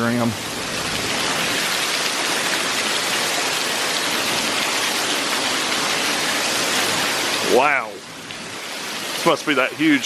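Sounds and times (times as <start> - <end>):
waterfall hissing: 0.0 - 10.0.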